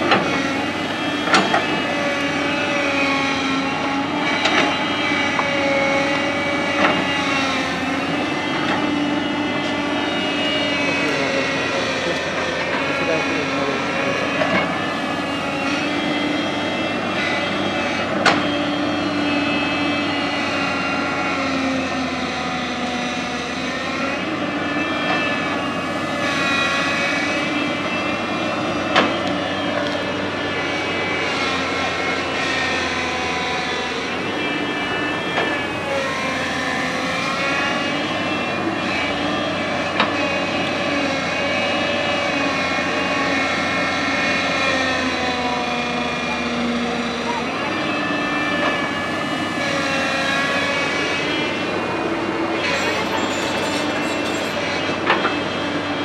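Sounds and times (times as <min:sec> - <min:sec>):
excavator diesel engine: 0:00.0 - 0:56.0
hydraulic whine: 0:00.0 - 0:56.0.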